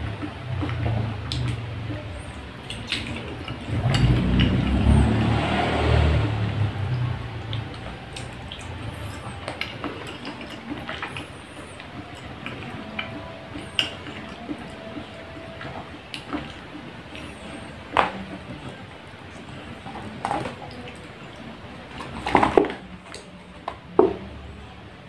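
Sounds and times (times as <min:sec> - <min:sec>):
chewing pudding: 0:00.0 - 0:23.6.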